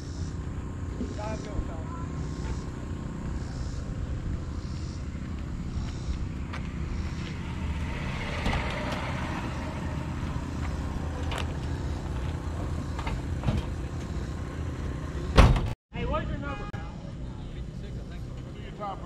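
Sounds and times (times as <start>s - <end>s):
car engine idling: 0.0s - 15.6s.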